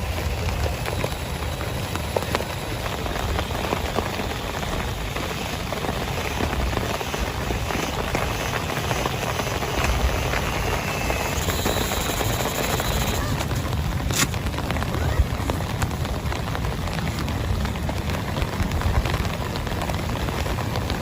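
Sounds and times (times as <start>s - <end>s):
heavy rain falling: 0.0s - 21.0s
sharp raindrop impacts: 0.0s - 21.0s.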